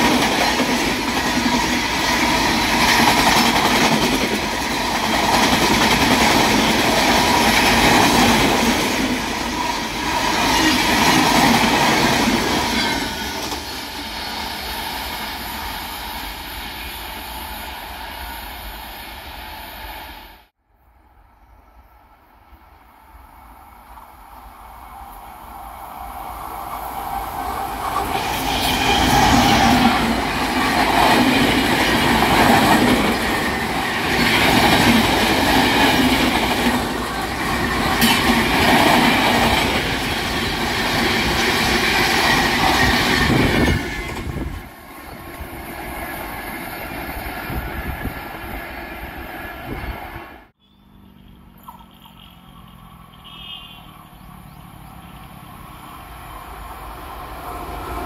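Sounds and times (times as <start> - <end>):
low steady train rumble: 0.0 - 58.0.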